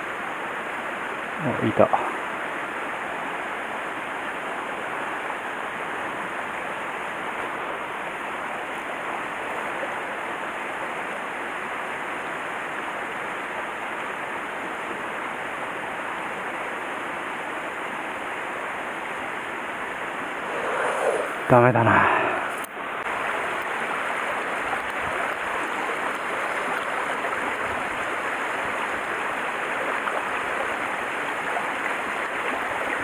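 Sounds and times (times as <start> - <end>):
stream water rushing over rocks: 0.1 - 33.0.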